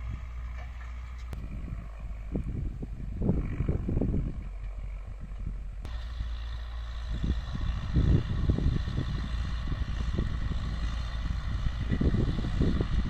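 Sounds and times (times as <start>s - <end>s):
distant tractor diesel engine: 0.0s - 13.0s
low buffeting: 0.0s - 13.0s.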